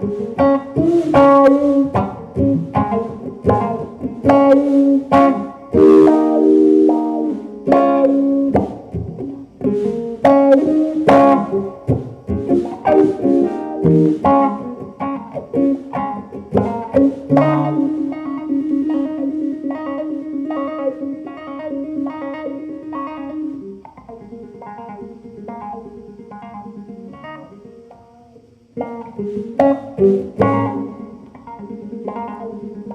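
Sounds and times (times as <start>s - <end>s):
instrumental guitar music: 0.0s - 32.9s.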